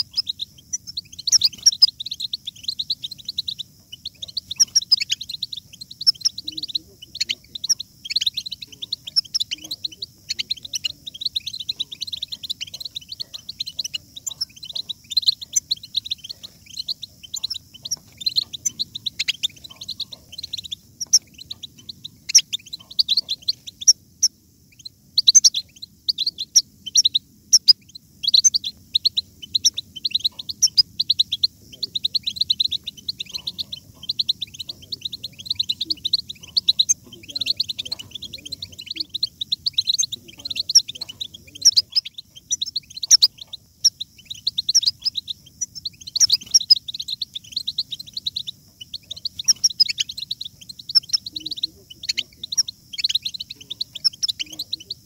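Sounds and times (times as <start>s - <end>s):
finches twittering and singing: 0.0s - 55.0s.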